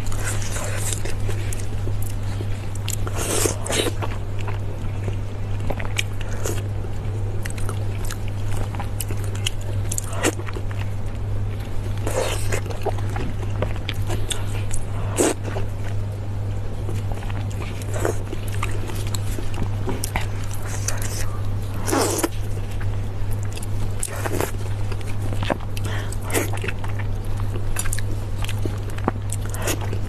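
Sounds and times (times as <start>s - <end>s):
person chewing: 0.0s - 16.1s, 16.8s - 30.0s.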